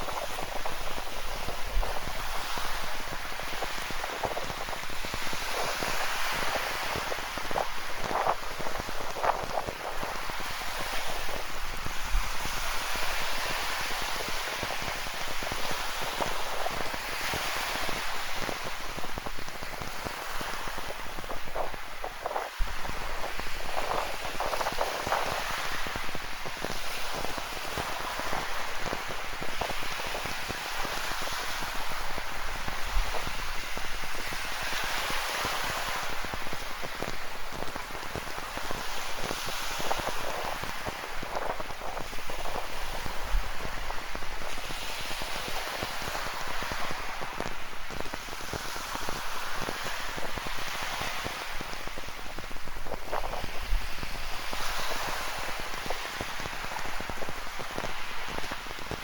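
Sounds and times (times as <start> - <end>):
surf on rocky shore: 0.0 - 59.0.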